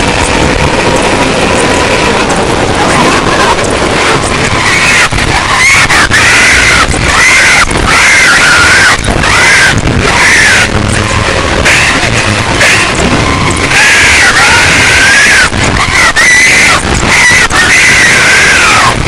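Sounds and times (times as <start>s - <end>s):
harsh distorted noise music: 0.0s - 19.0s
wavering arching squeals: 0.0s - 19.0s.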